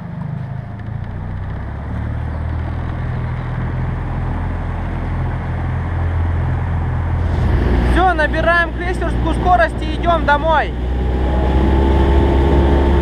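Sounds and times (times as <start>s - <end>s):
motorboat engine drone: 0.0s - 13.0s
water and wind noise: 1.2s - 13.0s.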